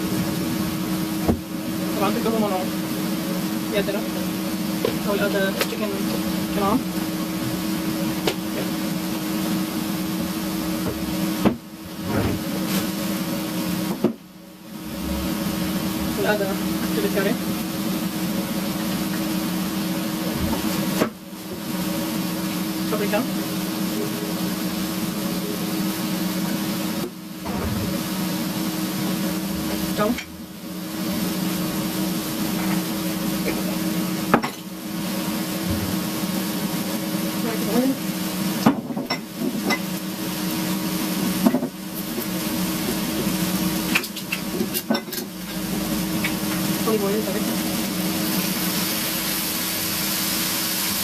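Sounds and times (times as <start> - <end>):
appliance hum with hiss: 0.0 - 51.0.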